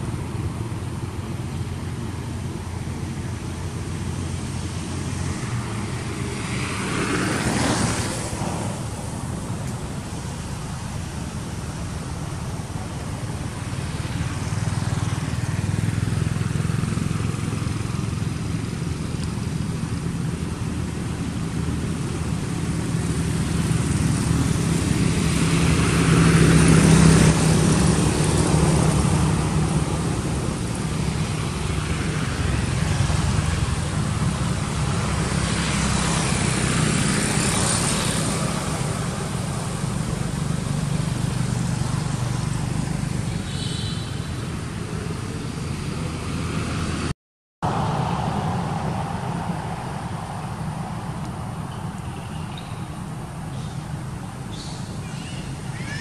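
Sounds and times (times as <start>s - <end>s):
road traffic rumble: 0.0s - 56.0s
vehicle passing: 0.0s - 56.0s.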